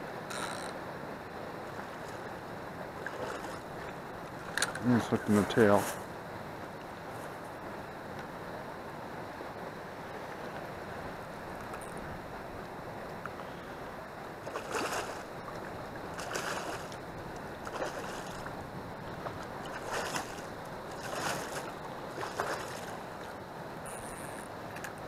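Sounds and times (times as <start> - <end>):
river water washing: 0.0 - 25.0.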